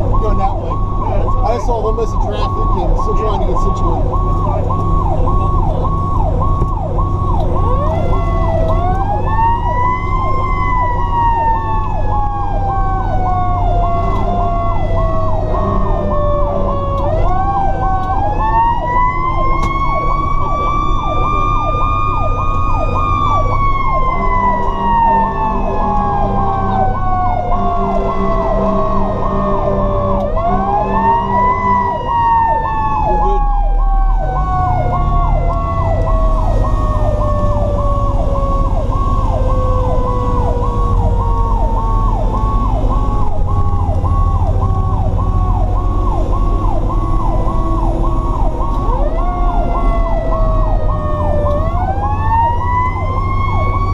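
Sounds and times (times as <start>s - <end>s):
electronic siren high-low tone: 0.0s - 53.9s
truck engine: 0.0s - 53.9s.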